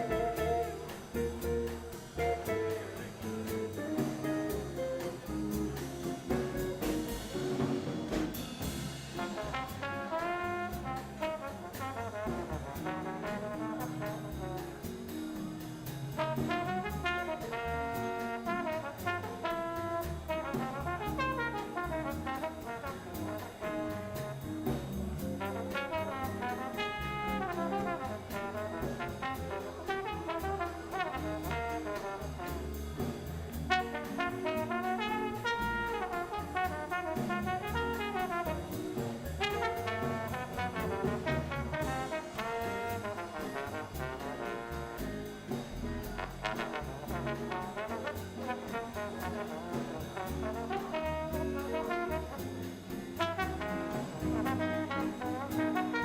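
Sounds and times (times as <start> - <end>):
brass horns playing melody: 0.0 - 3.3, 6.2 - 15.1, 16.1 - 56.0
drums keeping time: 0.0 - 56.0
walking upright bass: 0.0 - 56.0.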